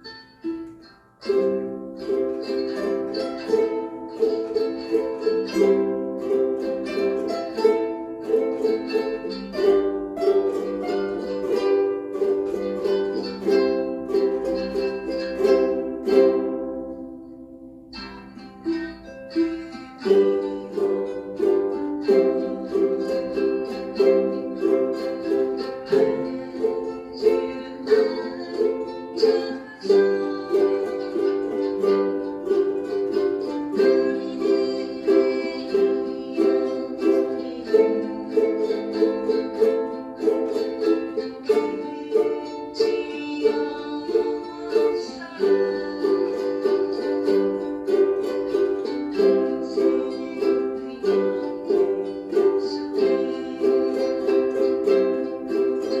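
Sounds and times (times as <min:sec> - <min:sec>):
ukulele strumming: 0:00.0 - 0:56.0.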